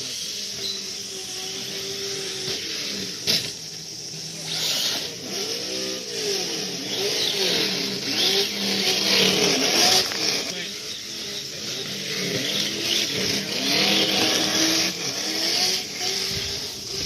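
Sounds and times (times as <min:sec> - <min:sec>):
electric motors of toy trucks whining: 0:00.0 - 0:17.0.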